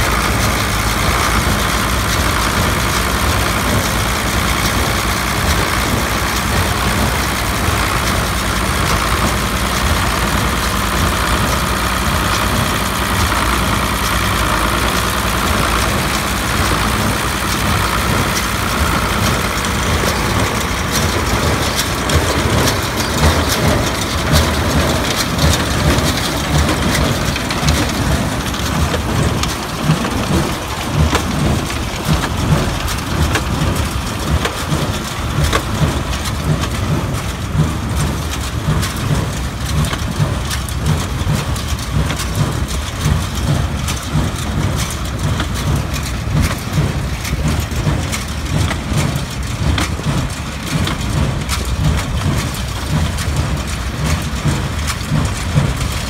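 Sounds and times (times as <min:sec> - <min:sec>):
tractor engine under load: 0:00.0 - 0:56.0
hay clattering and crackling: 0:10.6 - 0:56.0.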